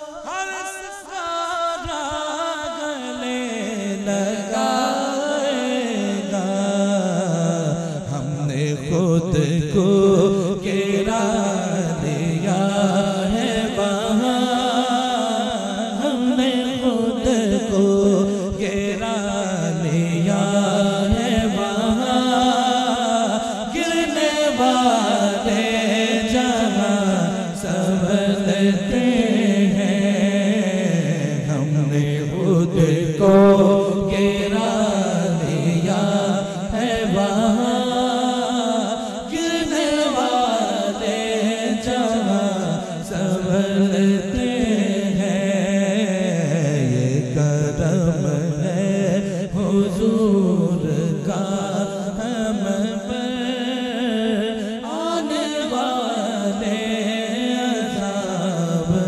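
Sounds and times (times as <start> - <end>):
man singing devotional chant: 0.0 - 59.0.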